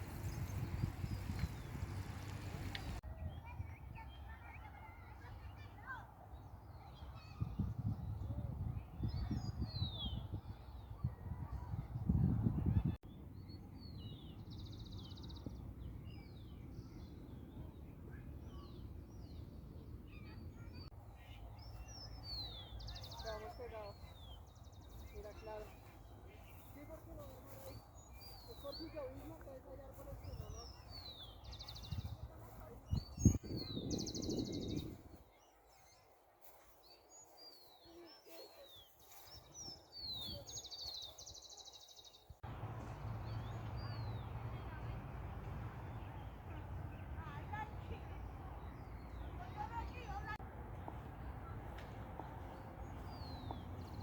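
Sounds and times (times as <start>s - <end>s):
birds chirping: 0.0s - 8.3s, 12.6s - 54.0s
songbird singing: 0.0s - 54.0s.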